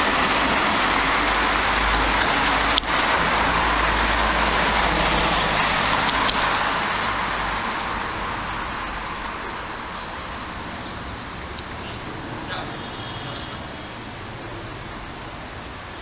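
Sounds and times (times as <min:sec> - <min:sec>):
car tyre and engine hiss: 0:00.0 - 0:16.0.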